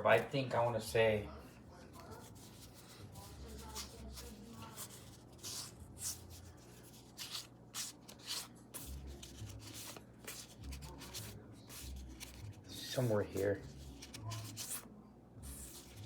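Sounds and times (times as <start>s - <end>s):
cards sliding against each other: 2.2s - 14.9s, 15.5s - 16.0s.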